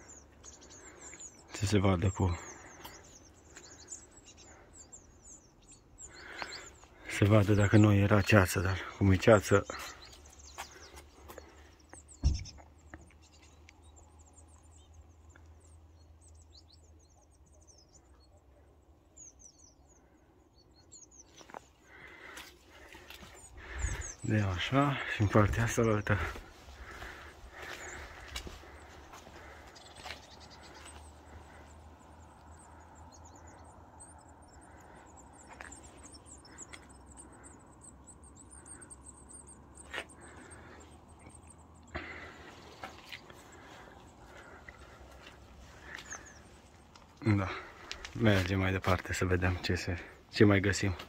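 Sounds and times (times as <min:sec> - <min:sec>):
small birds chirping faintly: 0:00.0 - 0:51.0.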